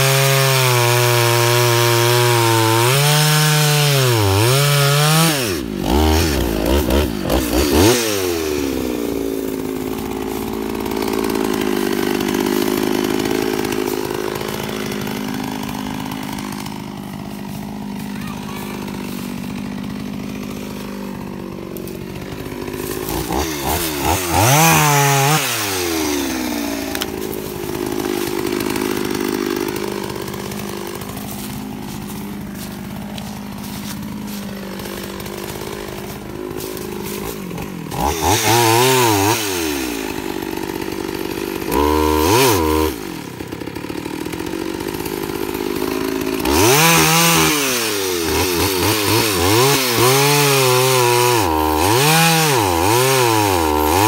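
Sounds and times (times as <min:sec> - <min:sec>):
chainsaw cutting log: 0:00.0 - 0:54.0
chainsaw idling with throttle blips: 0:00.0 - 0:54.0.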